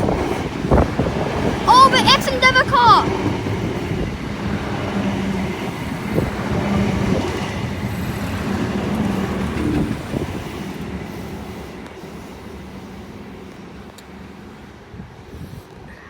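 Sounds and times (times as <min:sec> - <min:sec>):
train rumbling past: 0:00.0 - 0:15.9.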